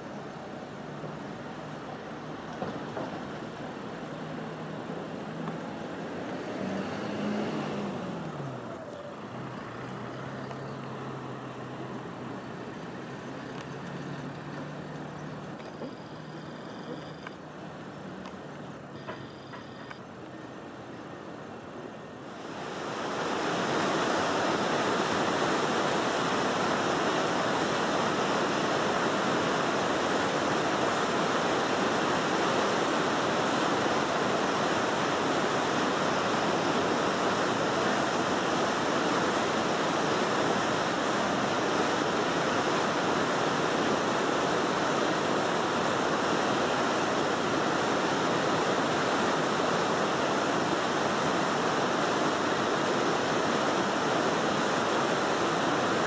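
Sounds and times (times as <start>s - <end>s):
river water rushing through weir: 0.0s - 56.0s.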